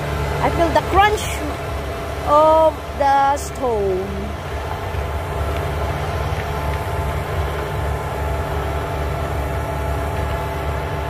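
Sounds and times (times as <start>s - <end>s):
garden tiller engine running: 0.0s - 11.0s.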